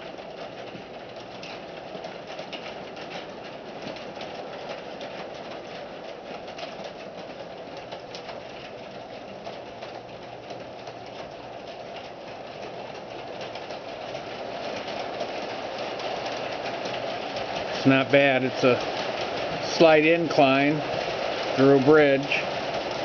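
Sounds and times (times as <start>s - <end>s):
wheels clicking on track: 0.0s - 23.0s.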